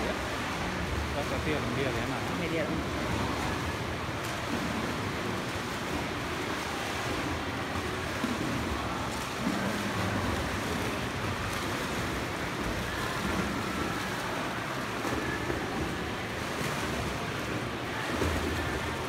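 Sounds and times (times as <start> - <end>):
children splashing while swimming: 2.8 - 19.0.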